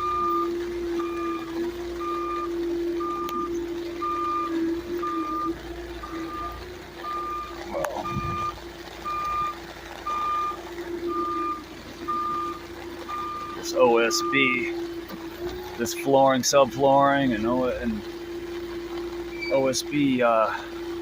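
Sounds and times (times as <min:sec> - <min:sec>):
forklift backup alarm beeping: 0:00.0 - 0:21.0
forklift engine hum: 0:00.0 - 0:21.0.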